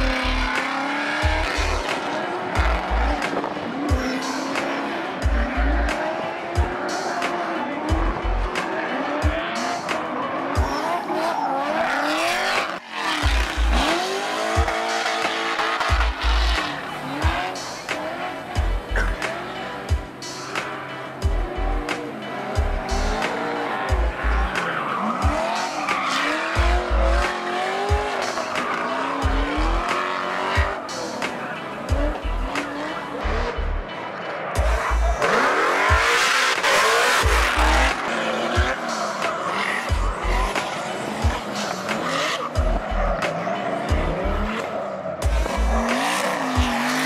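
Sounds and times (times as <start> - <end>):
trap beat with deep bass kicks: 0.0 - 33.9, 34.5 - 47.0
car engines revving hard: 0.0 - 47.0.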